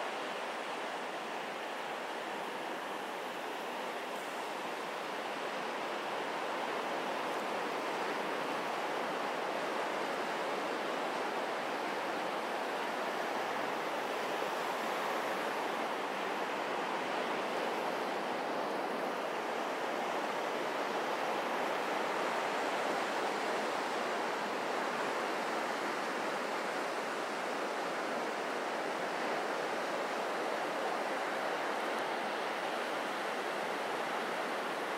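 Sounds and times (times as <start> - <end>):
waves washing on beach: 0.0 - 34.9.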